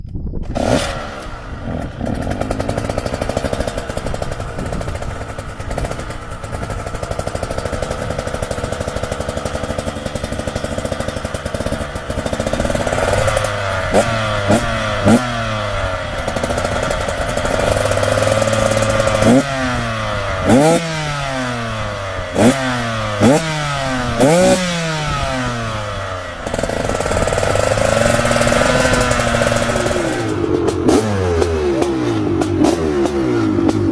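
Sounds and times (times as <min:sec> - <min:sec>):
two-stroke motorbike engine revving: 0:00.4 - 0:33.9.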